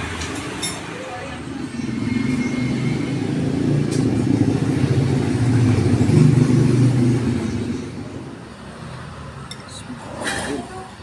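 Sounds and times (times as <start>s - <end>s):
vehicle engine passing by: 1.4s - 10.7s.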